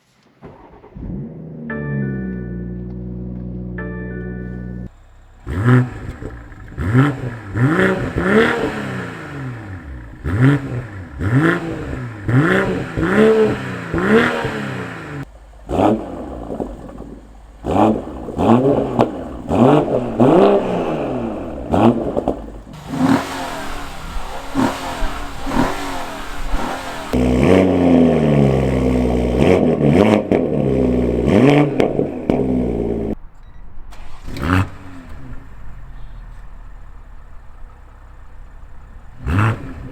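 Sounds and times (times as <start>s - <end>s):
car engine revving: 0.4s - 33.2s, 33.9s - 39.9s.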